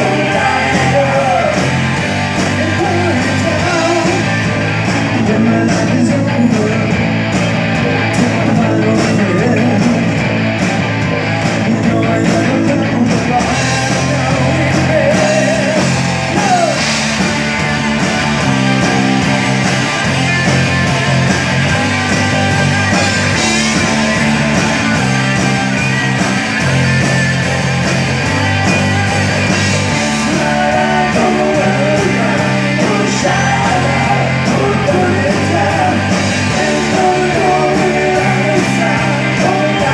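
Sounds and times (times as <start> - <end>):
bass guitar pattern: 0.0 - 39.9
live rock band playing: 0.0 - 39.9.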